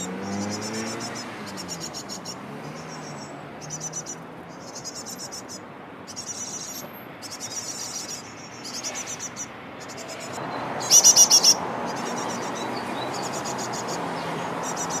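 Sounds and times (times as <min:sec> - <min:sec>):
small bird trilling: 0:00.0 - 0:15.0.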